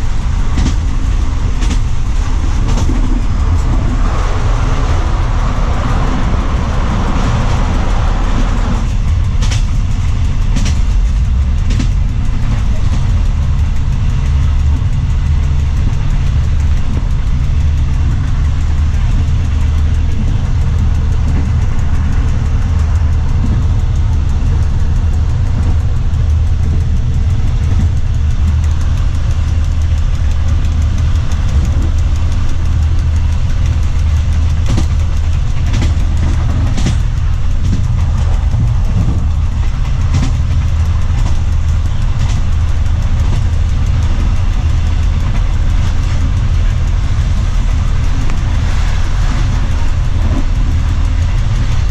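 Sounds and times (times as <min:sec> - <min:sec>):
sharp clicks and knocks: 0:00.0 - 0:51.9
train engine drone: 0:00.0 - 0:51.9
train running noise: 0:00.0 - 0:51.9.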